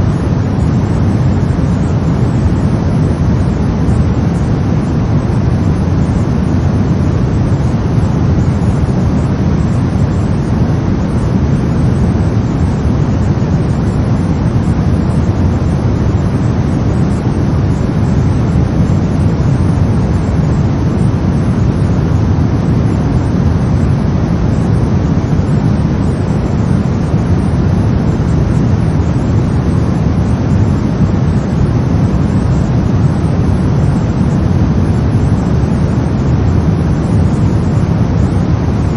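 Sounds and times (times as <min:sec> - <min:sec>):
brown noise: 0:00.0 - 0:38.9.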